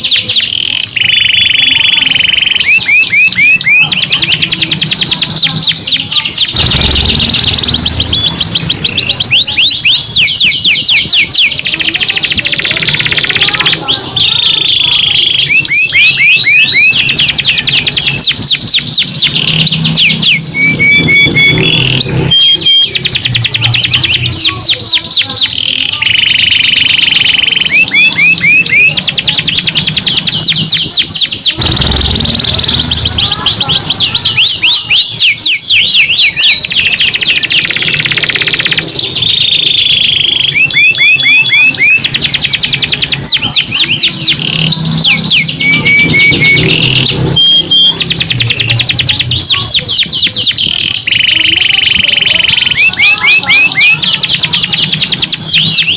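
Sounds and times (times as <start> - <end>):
canaries singing in trills: 0.0 - 55.9.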